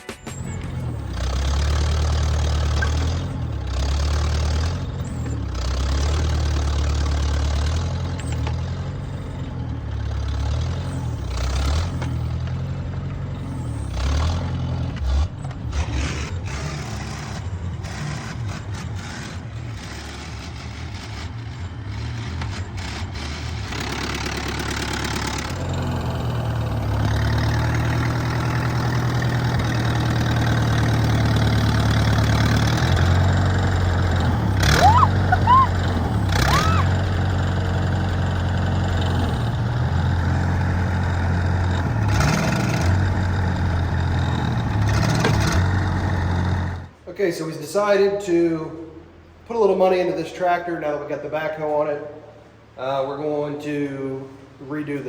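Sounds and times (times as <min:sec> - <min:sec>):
tractor engine running: 0:00.0 - 0:47.1.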